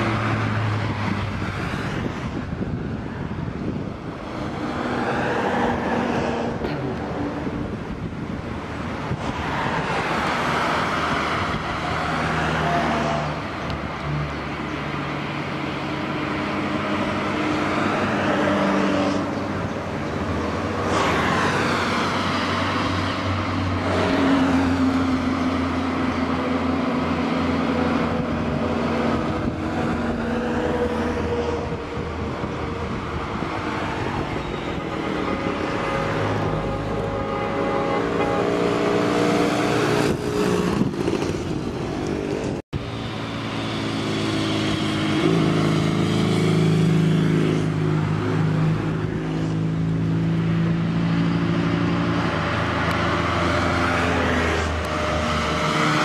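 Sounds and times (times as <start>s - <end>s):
motorcycles passing: 0.0s - 56.0s
vehicles driving past: 0.0s - 56.0s.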